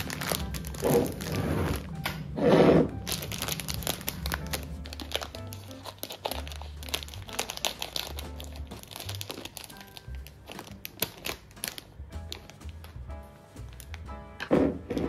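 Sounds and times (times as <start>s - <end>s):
crinkling and rustling handling: 0.0s - 15.0s
soft background music: 0.0s - 15.0s.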